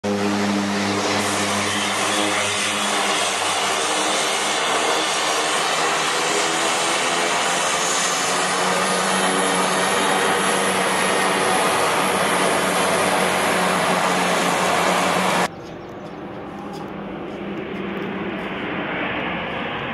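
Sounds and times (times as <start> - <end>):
turboprop plane taking off: 0.0 - 19.9.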